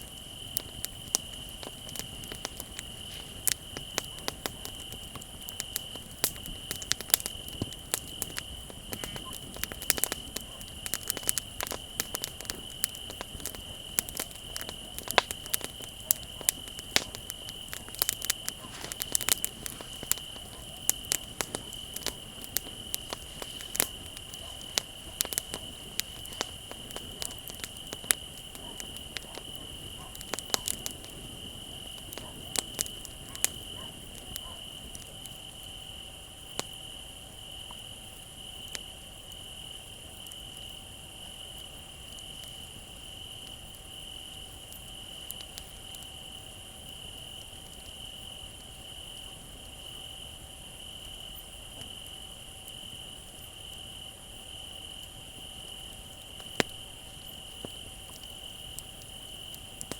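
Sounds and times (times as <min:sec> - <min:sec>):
crickets chirping: 0:00.0 - 0:59.9
wood fire crackling: 0:00.0 - 0:59.9.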